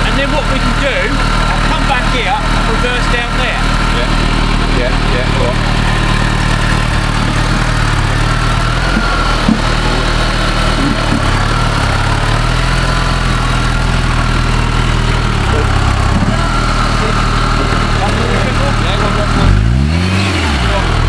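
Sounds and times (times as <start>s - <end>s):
off-road vehicle engine at low revs: 0.0s - 21.0s.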